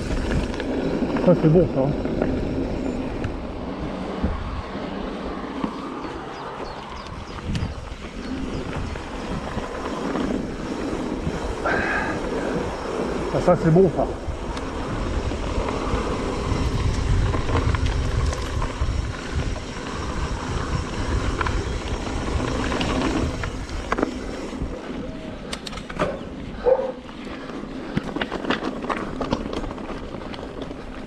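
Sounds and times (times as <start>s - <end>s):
bike clicks and rattles: 0.0s - 31.0s
tyre and bike noise: 0.0s - 31.0s
wind rumbling on microphone: 0.0s - 31.0s.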